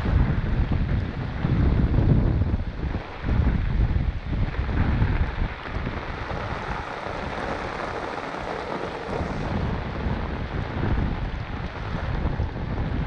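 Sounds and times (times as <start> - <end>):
rain on a wet street: 0.0 - 13.0
wind buffeting microphone: 0.0 - 13.0.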